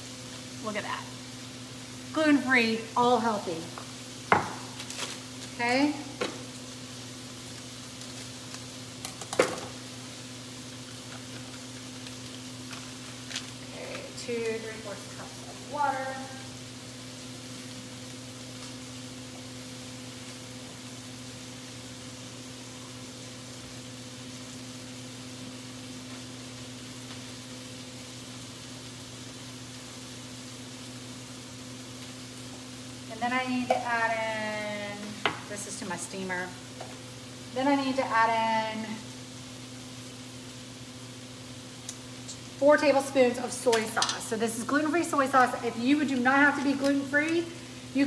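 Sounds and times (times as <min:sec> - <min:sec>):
faint kitchen background: 0:00.0 - 0:48.0
microwave oven humming: 0:00.0 - 0:48.0.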